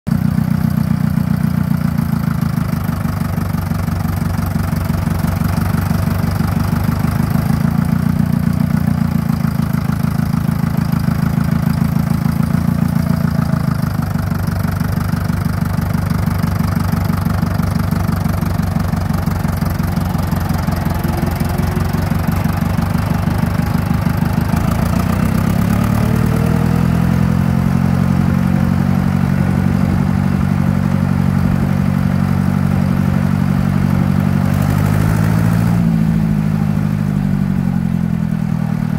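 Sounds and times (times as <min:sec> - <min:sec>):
tractor diesel engine running: 0:00.1 - 0:38.9.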